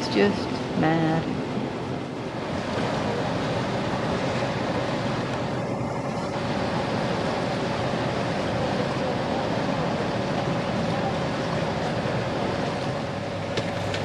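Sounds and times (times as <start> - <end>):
water noise: 0.0 - 14.0
wind: 0.0 - 14.0.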